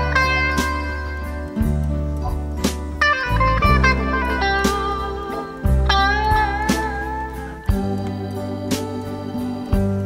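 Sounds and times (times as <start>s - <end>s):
bass line: 0.0s - 9.1s
lead guitar phrase: 0.0s - 10.0s.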